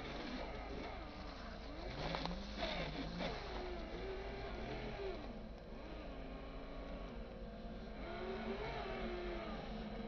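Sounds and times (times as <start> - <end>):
toy truck motor whining: 0.0 - 10.0.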